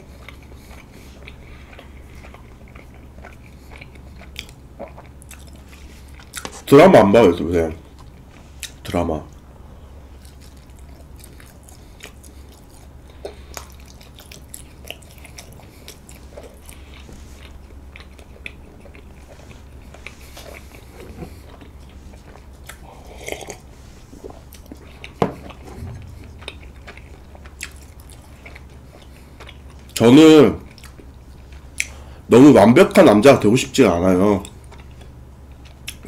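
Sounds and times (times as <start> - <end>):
chewing sticky rice cake: 0.0 - 9.5, 10.1 - 36.0
steady low hum: 0.0 - 36.0.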